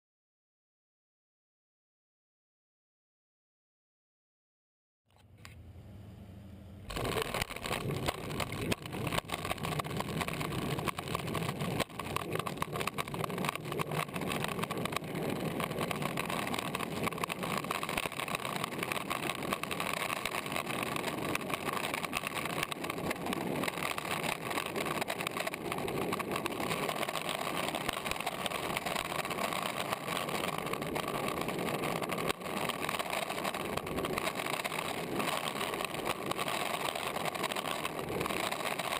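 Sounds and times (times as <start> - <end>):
skateboard wheels rolling on asphalt: 6.9 - 38.9.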